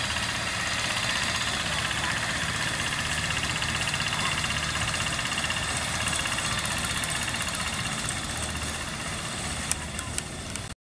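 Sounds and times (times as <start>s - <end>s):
diesel engine running under load: 0.0s - 10.8s.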